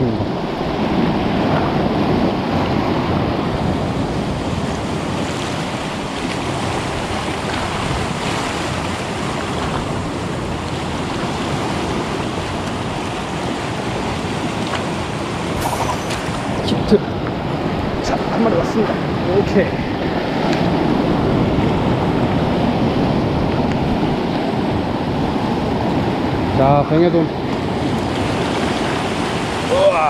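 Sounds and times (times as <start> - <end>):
surf breaking on rocky shore: 0.0 - 30.0
wind buffeting microphone: 0.0 - 30.0.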